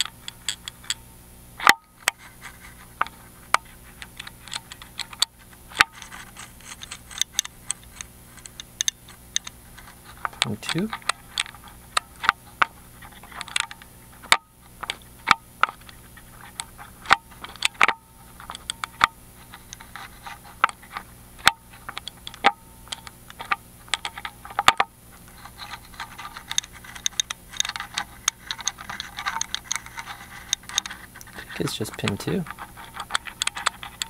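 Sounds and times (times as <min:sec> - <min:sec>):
lock pick clicking and scraping: 0:00.0 - 0:01.0, 0:01.6 - 0:34.0.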